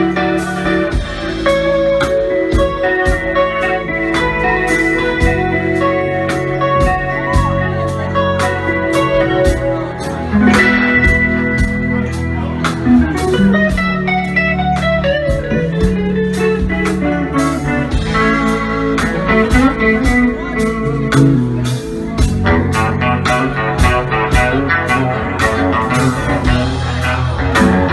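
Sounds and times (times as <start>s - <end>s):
bass: 0.0s - 27.9s
electric guitar lead: 0.0s - 27.9s
keyboard: 0.0s - 27.9s.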